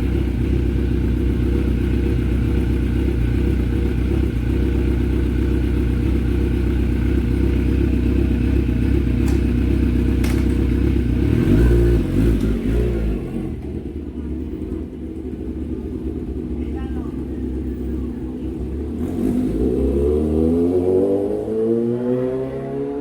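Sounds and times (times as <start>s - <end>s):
motorcycle engine idling: 0.0s - 19.7s.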